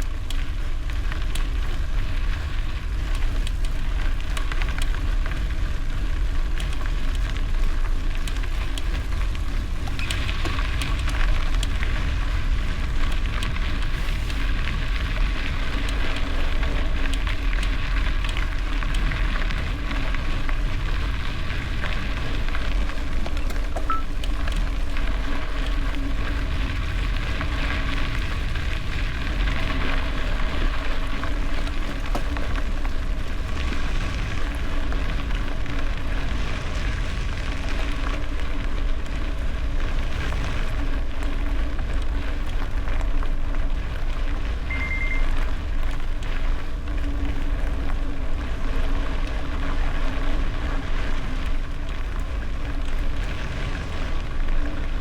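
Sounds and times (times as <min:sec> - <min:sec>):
bike tyres crackling on gravel: 0:00.0 - 0:55.0
wind on microphone: 0:00.0 - 0:55.0.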